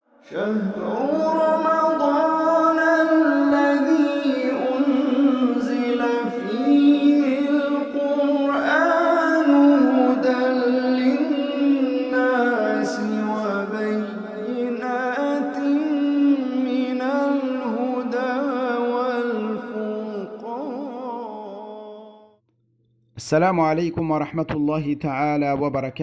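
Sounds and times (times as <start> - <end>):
person singing unaccompanied: 0.3 - 22.1.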